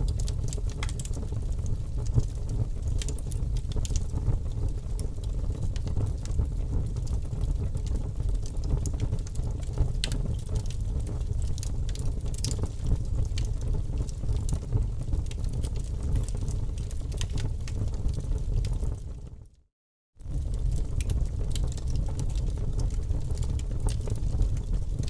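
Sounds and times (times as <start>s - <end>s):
sharp crackles and clicks: 0.0s - 19.0s, 20.3s - 25.0s.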